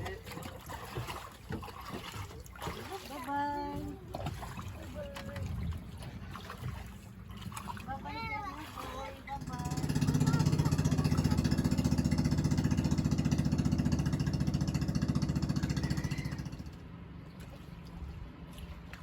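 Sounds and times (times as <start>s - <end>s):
boat engine chugging: 0.0s - 18.6s.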